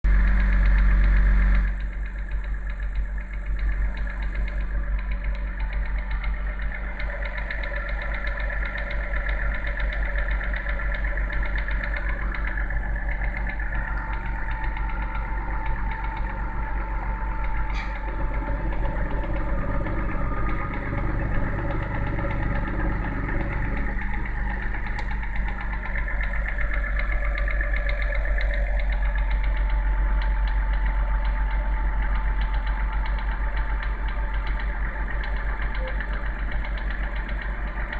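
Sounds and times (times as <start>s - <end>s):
engine idling with rapid knock: 0.0s - 37.9s.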